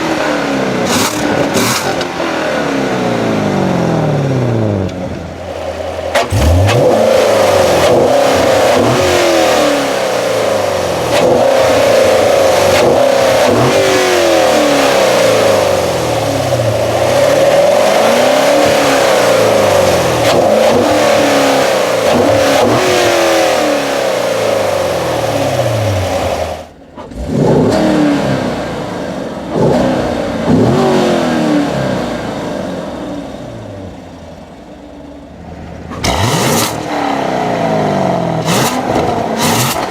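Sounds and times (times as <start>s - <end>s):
sports car engine accelerating: 0.0s - 39.9s
engine revving in short bursts: 5.4s - 34.3s, 35.9s - 39.9s.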